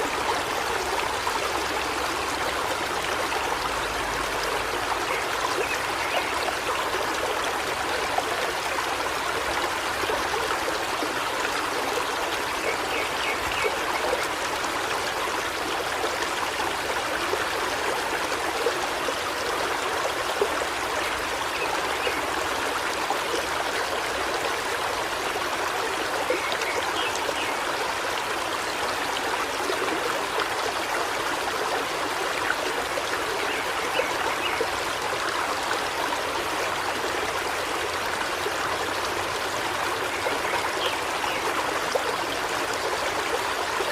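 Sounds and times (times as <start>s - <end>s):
river flowing over rocks: 0.0s - 43.9s.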